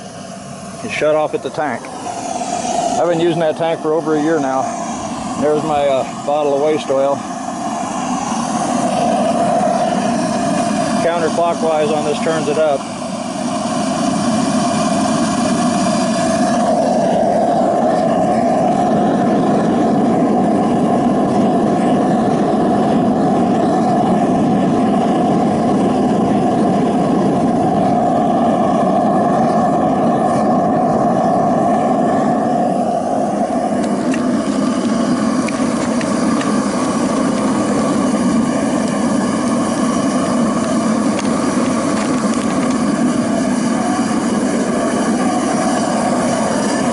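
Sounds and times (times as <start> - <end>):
furnace burner roaring: 0.0 - 46.9.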